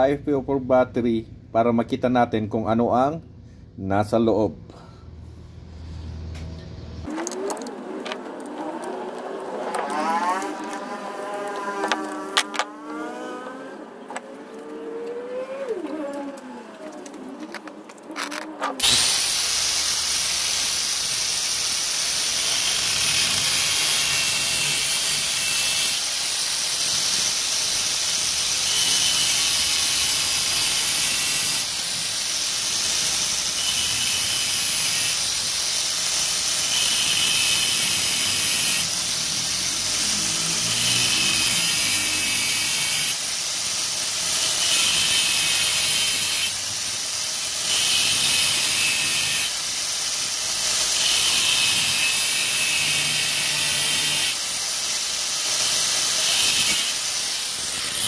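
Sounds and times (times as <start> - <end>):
angle grinder cutting metal: 7.0 - 58.0.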